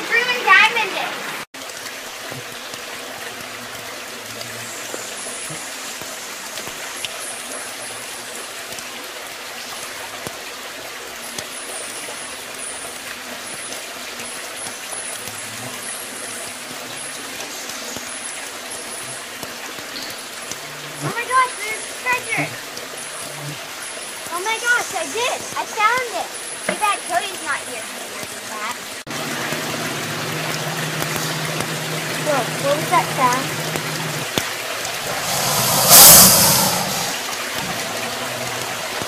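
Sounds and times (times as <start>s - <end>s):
brook running over rocks: 0.0s - 39.0s.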